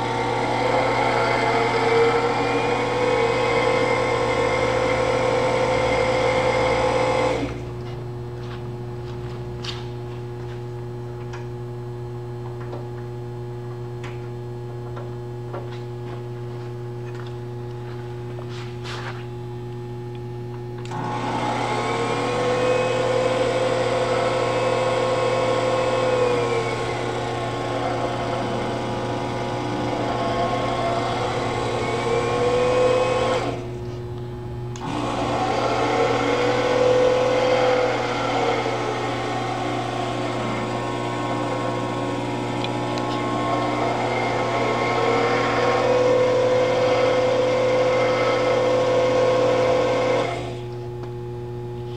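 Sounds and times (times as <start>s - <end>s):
electric drive whine: 0.0s - 51.9s
electrical hum: 0.0s - 51.9s.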